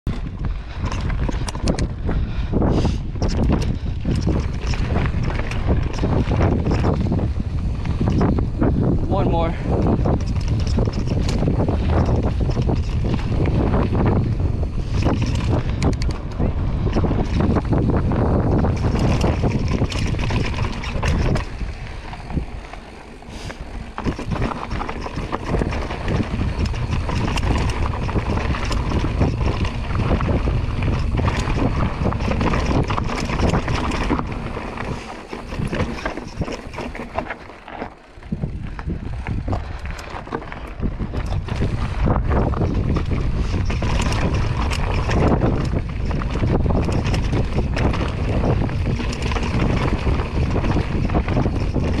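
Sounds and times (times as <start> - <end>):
wind buffeting microphone: 0.0 - 52.0
bike rattling over rocks: 0.1 - 52.0.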